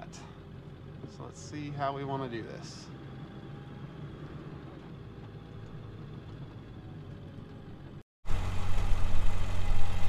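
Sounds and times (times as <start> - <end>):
truck engine running low: 0.0 - 10.0.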